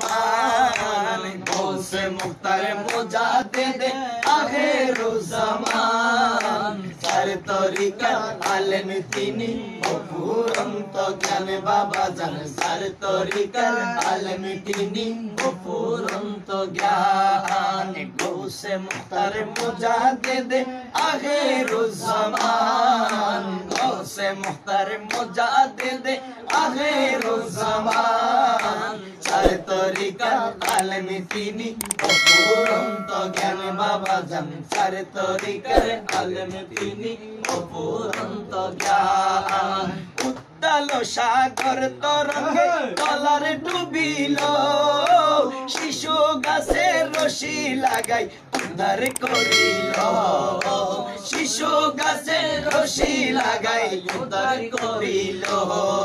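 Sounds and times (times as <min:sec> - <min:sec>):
hand claps: 0:00.0 - 0:56.0.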